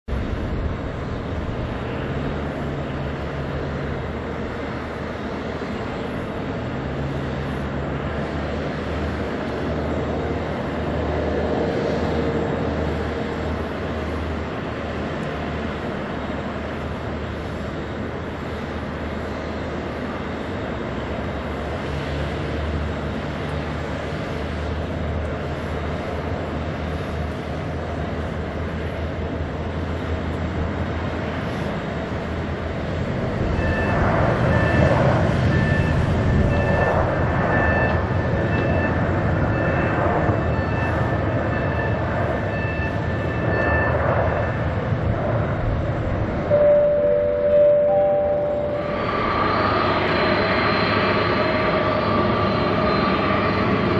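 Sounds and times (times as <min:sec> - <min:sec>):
distant jet rush: 0:00.1 - 0:53.9.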